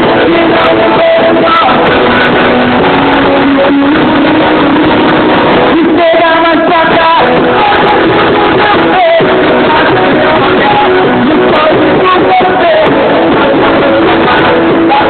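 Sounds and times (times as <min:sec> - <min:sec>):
guitar music: 0:00.0 - 0:15.0
person singing: 0:00.0 - 0:15.0.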